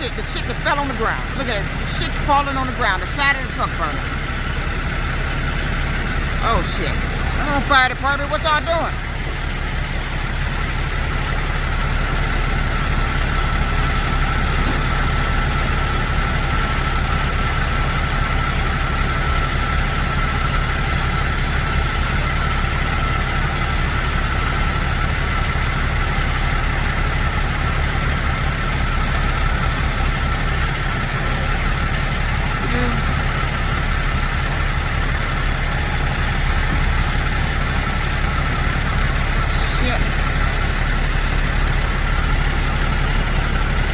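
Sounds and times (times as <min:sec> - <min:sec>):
heavy vehicle engine idling: 0:00.0 - 0:43.9.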